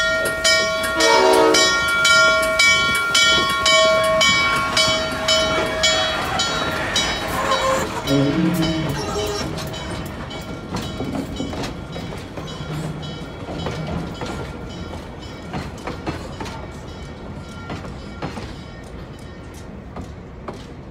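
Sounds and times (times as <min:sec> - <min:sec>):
train wheels clicking over rail joints: 0:00.0 - 0:20.9.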